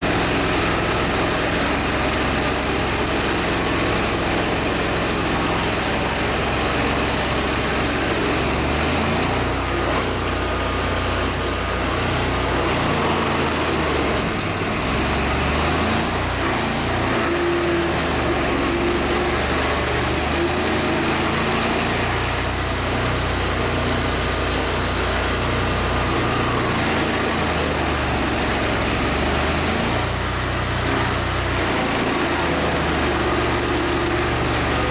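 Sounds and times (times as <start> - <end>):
machine engine running: 0.0 - 34.9.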